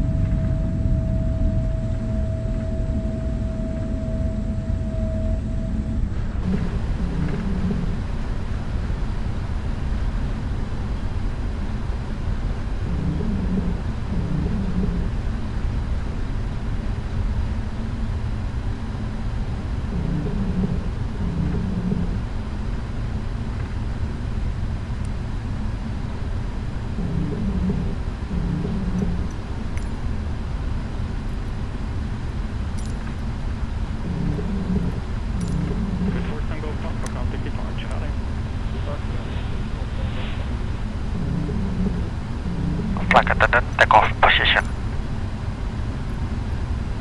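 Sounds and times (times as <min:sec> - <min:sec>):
airliner engines rumbling: 0:00.0 - 0:47.0.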